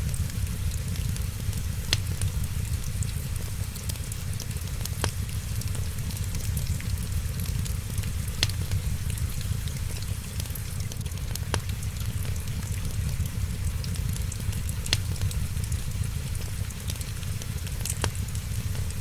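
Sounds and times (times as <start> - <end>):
low rumble and hiss: 0.0 - 19.0
sharp fire pops: 0.0 - 19.0
wood fire crackling: 0.0 - 19.0.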